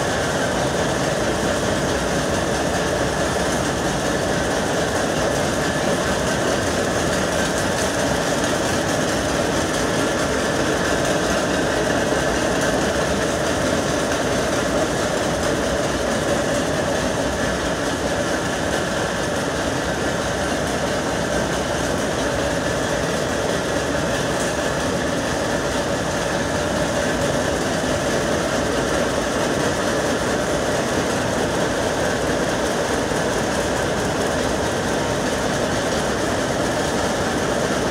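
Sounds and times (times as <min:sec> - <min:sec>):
power looms clattering: 0:00.0 - 0:37.9.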